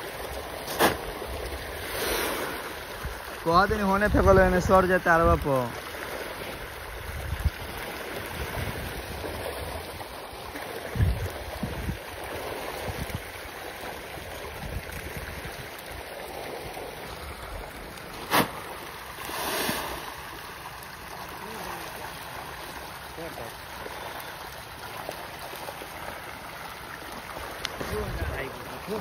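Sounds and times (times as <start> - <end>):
fish splashing at surface: 0.0 - 3.4, 7.5 - 29.0.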